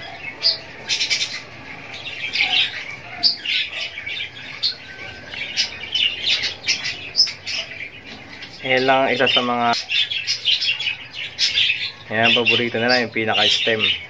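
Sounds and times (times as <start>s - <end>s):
cage birds chirping and squawking: 0.0s - 14.0s.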